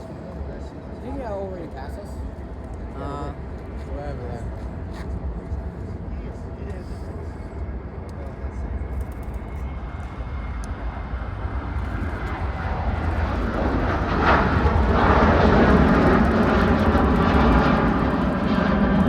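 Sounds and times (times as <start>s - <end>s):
jet airliner engine noise: 0.0s - 19.0s.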